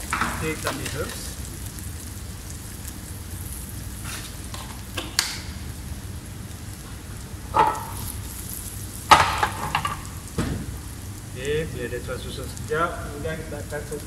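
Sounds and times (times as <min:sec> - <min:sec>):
onion sizzling in a frying pan: 0:00.0 - 0:14.0.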